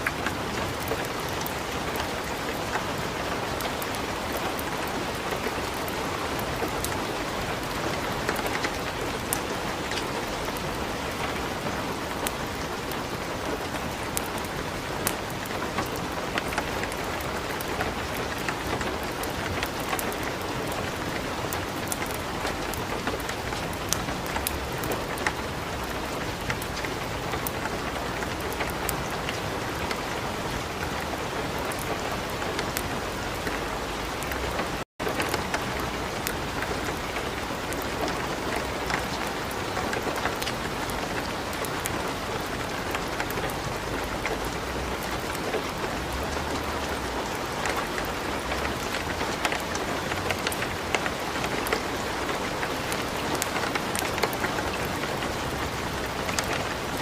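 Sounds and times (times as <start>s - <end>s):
light rain: 0.0s - 57.0s
wood fire crackling: 0.0s - 57.0s.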